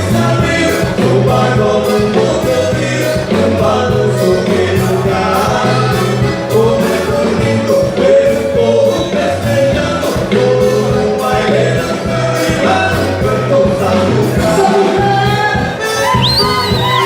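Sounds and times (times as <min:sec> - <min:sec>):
accordion: 0:00.0 - 0:17.0
bass: 0:00.0 - 0:17.0.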